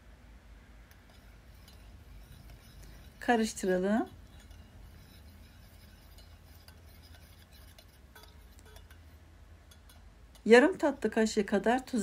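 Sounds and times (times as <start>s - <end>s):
metal spoon stirring in a pot: 0.9s - 12.0s.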